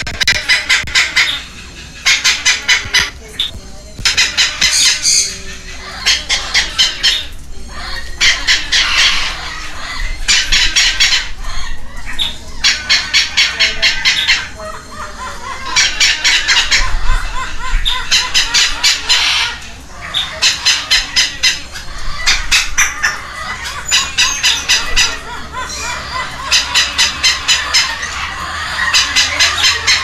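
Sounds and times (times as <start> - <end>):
baby parrots squawking: 0.0 - 30.0.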